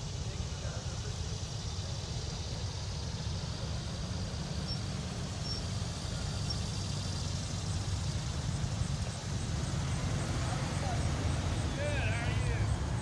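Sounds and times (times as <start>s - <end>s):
street noise rumble: 0.0s - 13.0s.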